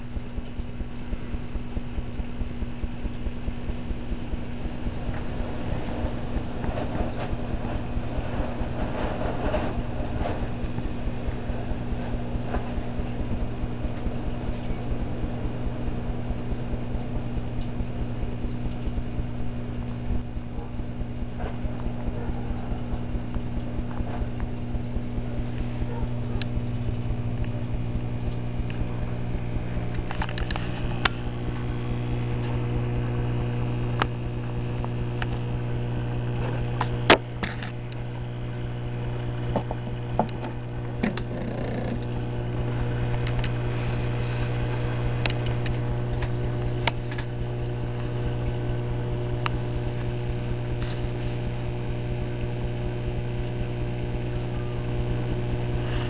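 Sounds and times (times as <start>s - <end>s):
aquarium pump humming: 0.0s - 56.0s
water bubbling and trickling: 0.0s - 56.0s.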